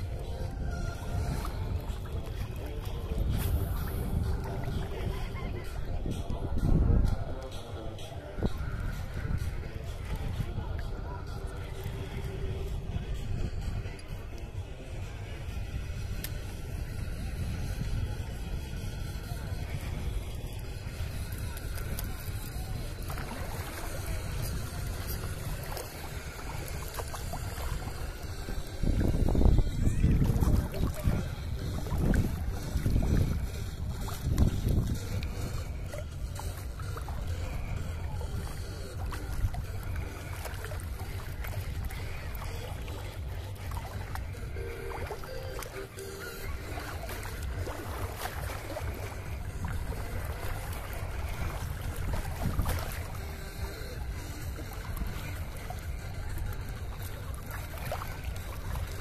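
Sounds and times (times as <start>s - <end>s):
small waves lapping: 0.0s - 59.0s
wind buffeting microphone: 0.0s - 59.0s.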